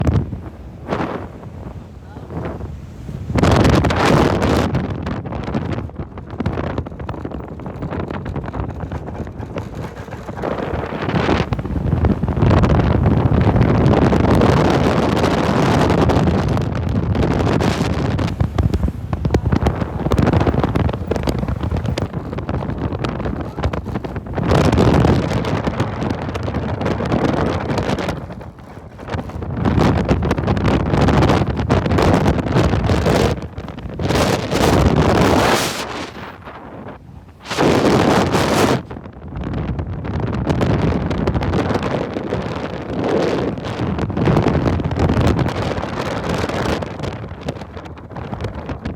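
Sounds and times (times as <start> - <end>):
pickup truck driving off-road: 0.0 - 39.6
wind buffeting microphone: 0.0 - 48.9.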